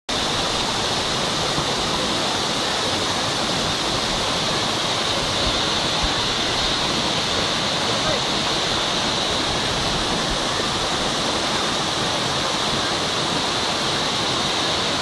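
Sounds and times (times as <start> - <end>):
waterfall rushing: 0.1 - 15.0.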